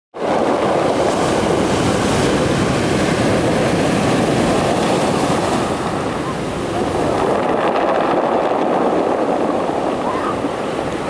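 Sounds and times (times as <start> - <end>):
waves breaking on pebbles: 0.2 - 11.0.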